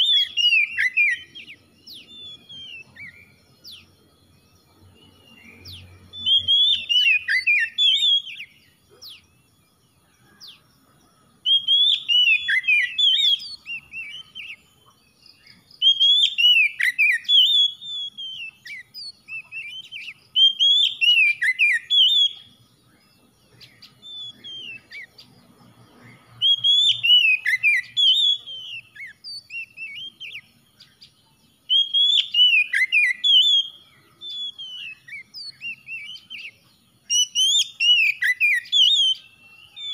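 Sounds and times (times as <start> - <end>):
bird singing whistled phrases: 0.0 - 10.6, 11.4 - 25.3, 25.9 - 39.9
soft scattered bird notes: 0.0 - 39.9.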